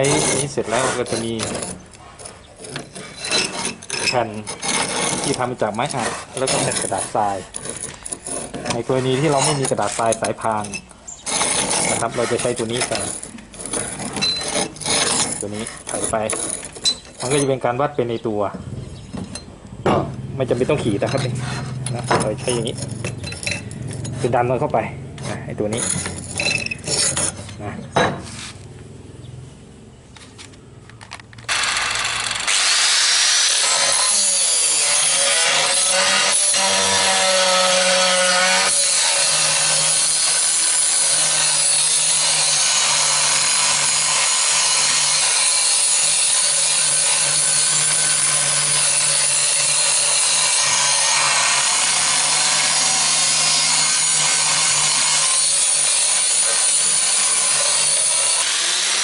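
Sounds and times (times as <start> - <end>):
angle grinder grinding steel: 0.0 - 28.6, 31.5 - 59.0.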